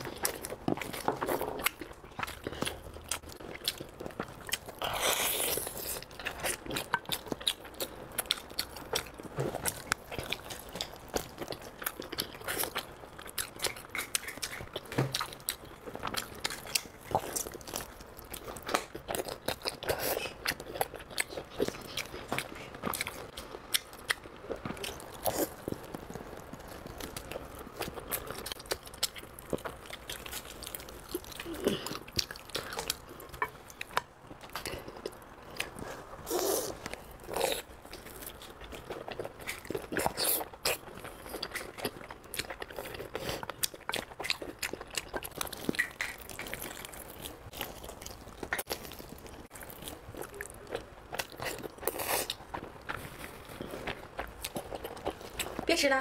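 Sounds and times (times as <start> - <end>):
person chewing meat off ribs: 0.0 - 55.7.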